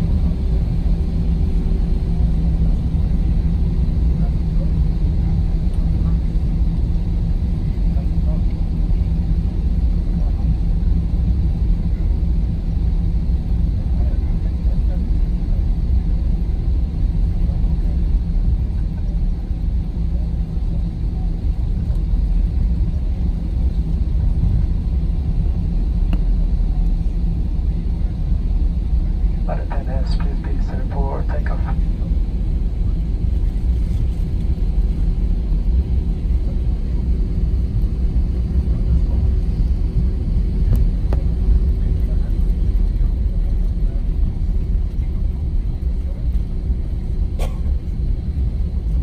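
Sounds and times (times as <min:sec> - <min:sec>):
airplane cabin rumble: 0:00.0 - 0:49.0
faint steady hum: 0:00.0 - 0:49.0.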